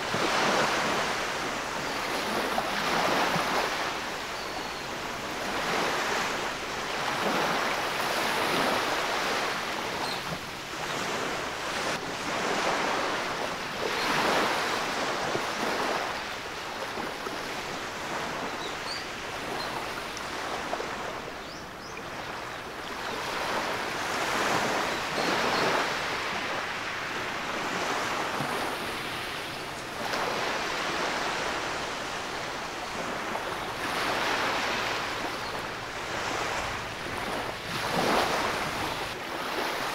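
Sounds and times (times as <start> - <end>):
small waves washing up a beach: 0.0 - 39.9.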